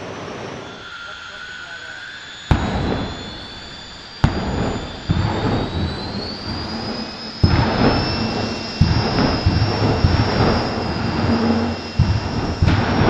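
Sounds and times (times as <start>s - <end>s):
high jet turbine whistle: 0.0s - 13.0s
jet engine rumbling roar: 0.0s - 13.0s
afterburner bangs: 2.3s - 13.0s.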